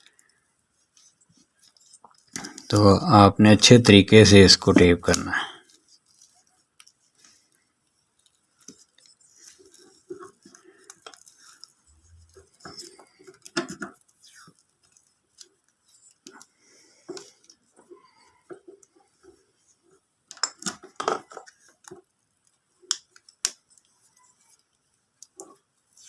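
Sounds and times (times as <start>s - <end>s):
clicks and rustles of tape: 0.0s - 3.0s, 4.6s - 26.0s.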